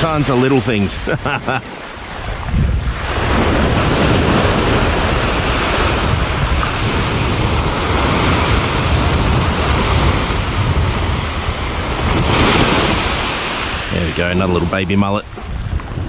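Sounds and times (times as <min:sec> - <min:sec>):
small waves washing over sand: 0:00.0 - 0:16.0
wind rumbling on microphone: 0:00.0 - 0:16.0.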